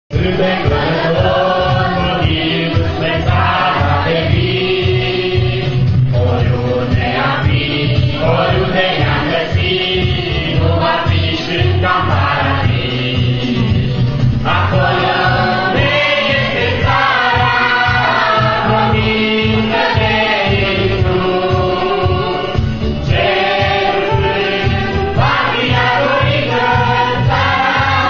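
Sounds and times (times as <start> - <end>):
choir singing: 0.1 - 28.0.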